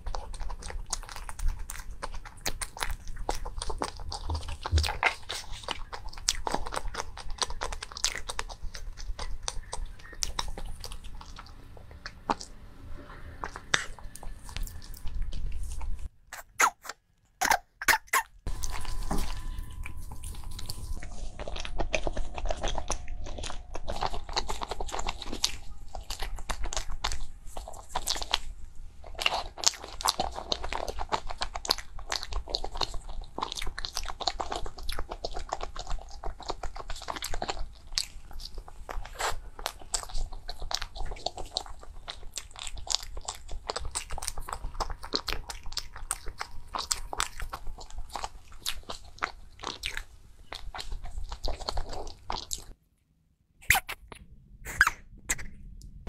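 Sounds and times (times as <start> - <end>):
crisp crunching and chewing: 0.0 - 52.8.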